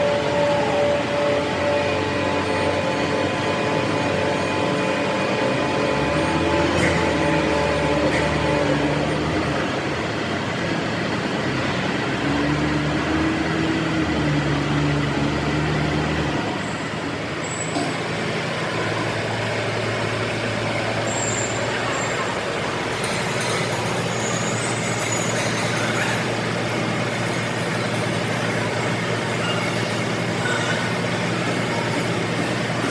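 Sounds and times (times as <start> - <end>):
heavy engine humming: 0.0 - 32.9.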